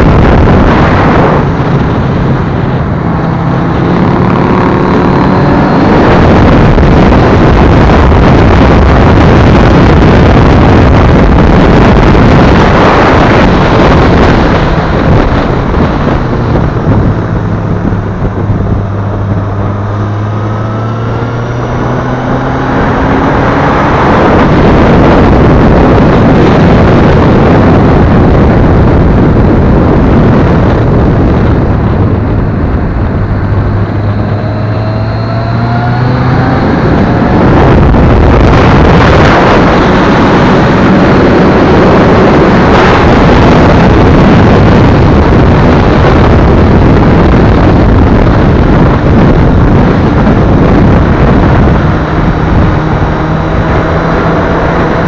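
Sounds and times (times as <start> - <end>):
loud wind roar: 0.0 - 55.0
motorcycle engine accelerating: 0.0 - 55.0.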